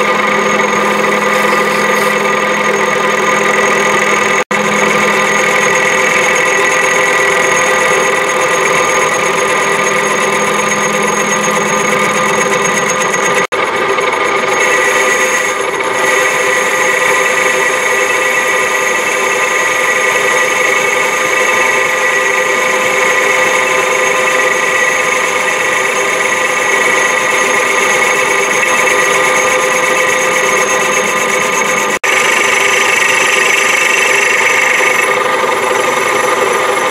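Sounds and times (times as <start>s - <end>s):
metal lathe cutting: 0.0s - 36.9s.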